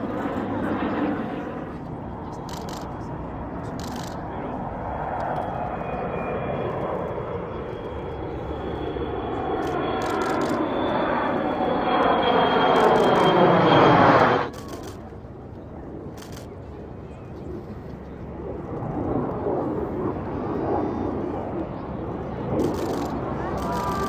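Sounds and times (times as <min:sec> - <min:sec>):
airplane flying past: 0:00.0 - 0:24.0.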